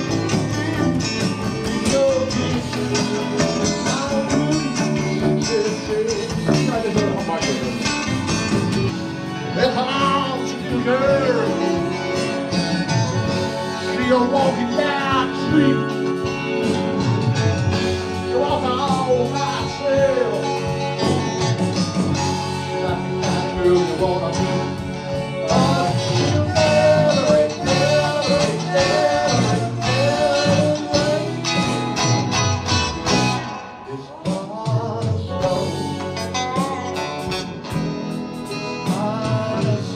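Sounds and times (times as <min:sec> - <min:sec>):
bending lead guitar line: 0:00.0 - 0:39.9
live band playing: 0:00.0 - 0:39.9.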